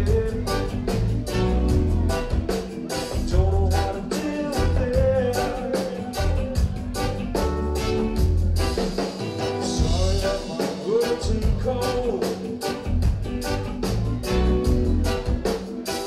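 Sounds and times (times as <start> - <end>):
bass and guitar: 0.0 - 16.0
drum kit beat: 0.0 - 16.0
saxophone line: 0.0 - 16.0.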